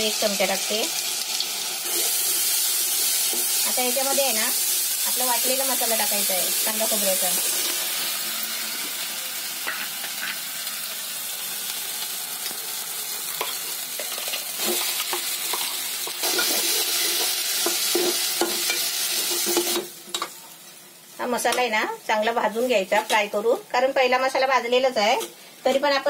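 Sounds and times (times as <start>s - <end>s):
spices sizzling in hot oil: 0.0s - 26.0s.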